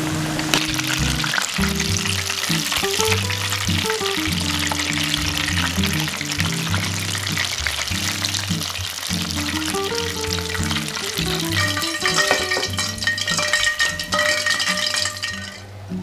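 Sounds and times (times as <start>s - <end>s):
background music with plucked notes: 0.0s - 16.0s
chicken deep-frying in oil: 0.0s - 16.0s.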